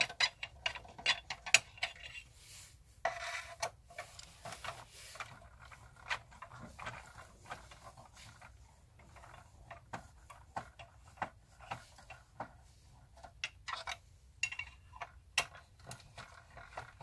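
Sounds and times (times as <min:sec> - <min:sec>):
plastic parts clicking and tapping: 0:00.0 - 0:02.2, 0:03.0 - 0:17.0.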